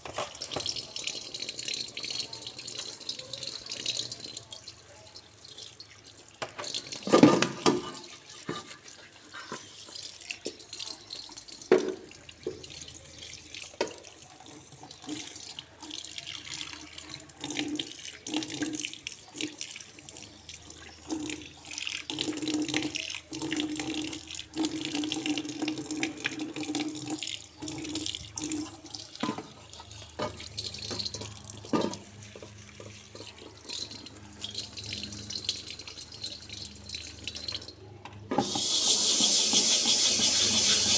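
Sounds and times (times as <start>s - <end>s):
tap water running into sink: 0.0s - 37.7s, 38.3s - 40.9s.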